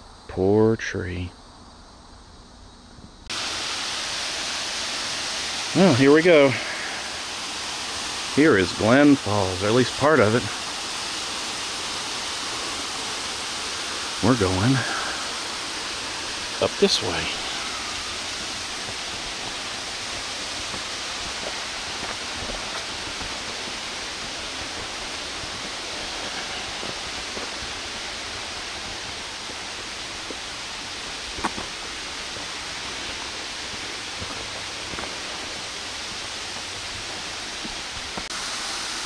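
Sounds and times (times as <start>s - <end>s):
waterfall rushing: 3.3s - 39.0s.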